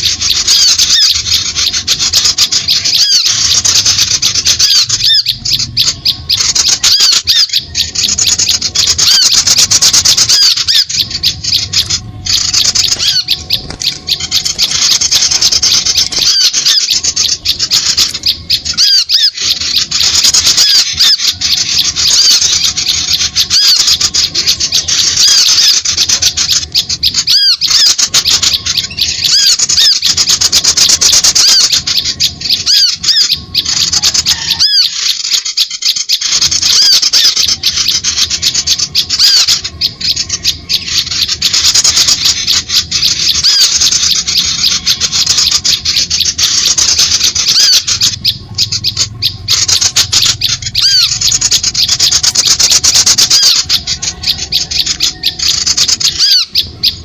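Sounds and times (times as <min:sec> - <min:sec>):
small birds chirping rapidly: 0:00.0 - 0:57.0.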